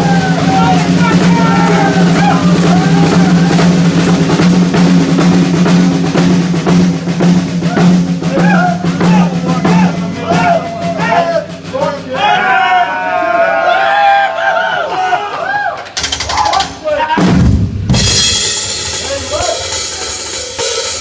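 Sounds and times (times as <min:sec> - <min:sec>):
rock drum solo: 0:00.0 - 0:13.2, 0:16.0 - 0:21.0.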